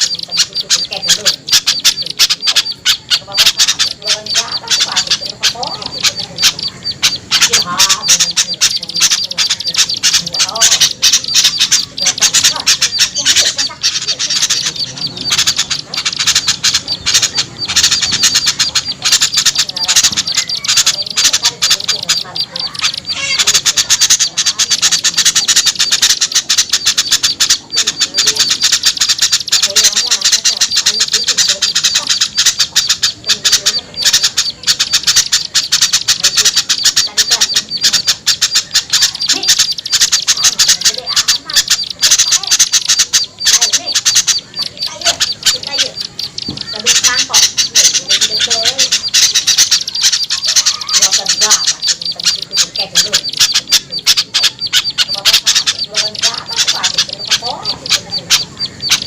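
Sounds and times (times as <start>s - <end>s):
small birds chattering: 0.0s - 59.0s.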